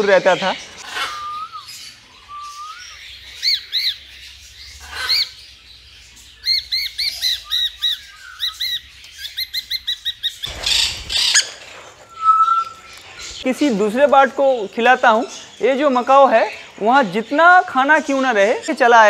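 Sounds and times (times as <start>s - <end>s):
parrots chirping: 0.0s - 19.0s.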